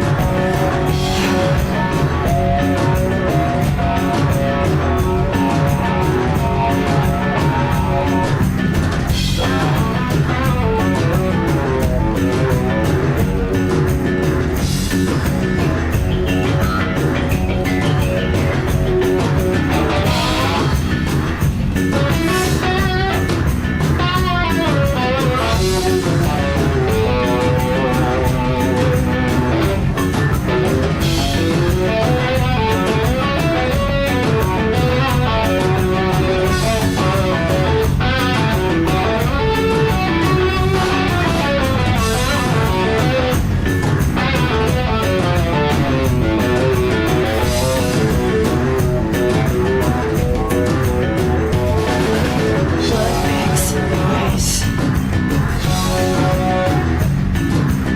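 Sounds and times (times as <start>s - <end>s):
live band playing: 0.0s - 57.9s
steady drum beat: 0.0s - 57.9s
wavering guitar lines: 0.0s - 57.9s.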